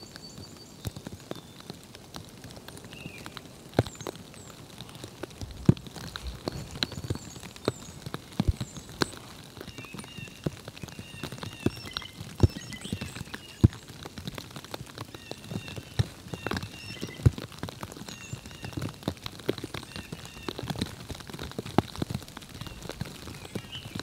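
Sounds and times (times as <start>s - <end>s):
songbirds chirping: 0.0s - 24.0s
sharp ticks and taps: 0.2s - 24.0s.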